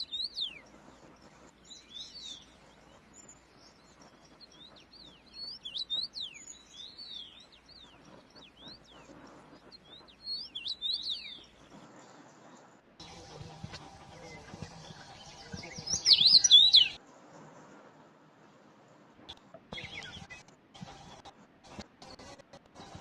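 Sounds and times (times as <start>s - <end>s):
faint outdoor background: 0.0s - 23.0s
small birds chirping: 0.0s - 23.0s.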